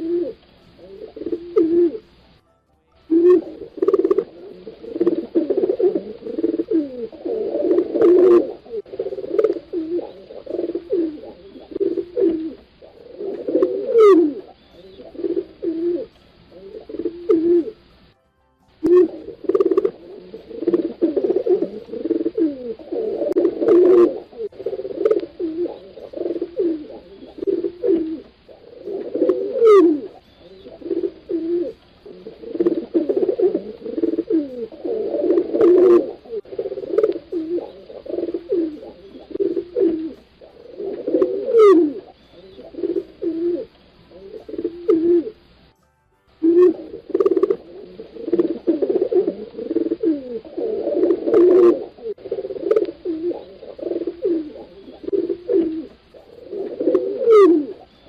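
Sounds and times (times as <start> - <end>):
pigeons cooing: 0.0 - 2.3, 3.1 - 18.0, 18.8 - 45.7, 46.4 - 58.0.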